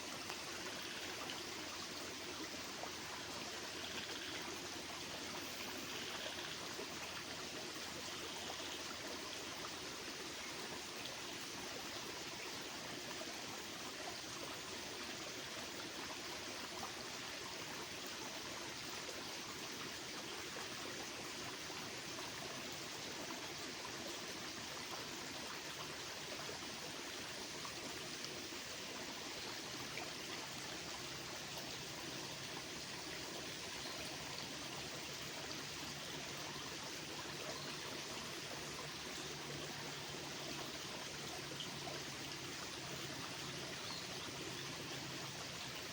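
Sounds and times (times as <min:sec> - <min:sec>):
running water: 0:00.0 - 0:45.9.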